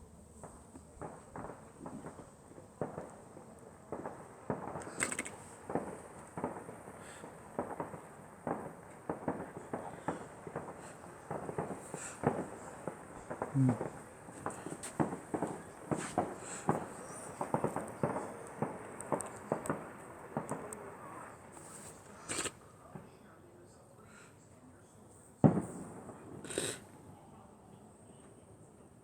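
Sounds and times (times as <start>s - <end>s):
fireworks bangs and crackling: 0.0s - 23.2s, 25.4s - 28.8s.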